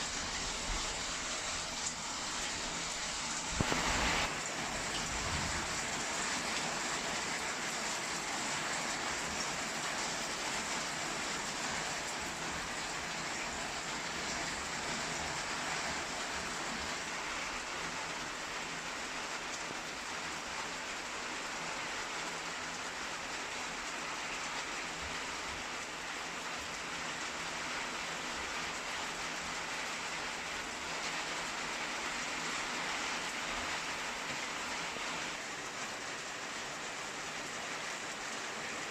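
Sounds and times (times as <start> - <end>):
rain falling steadily: 0.0 - 38.9.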